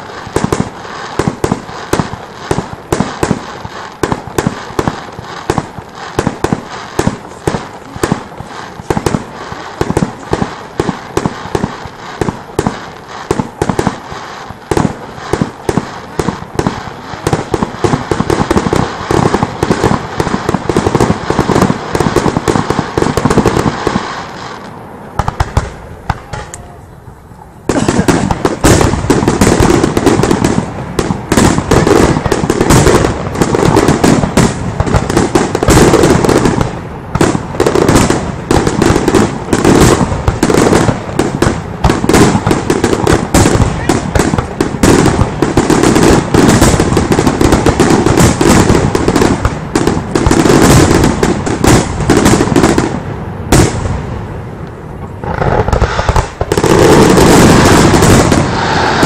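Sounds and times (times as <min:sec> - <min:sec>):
fireworks bursting and crackling: 0:00.0 - 0:59.0.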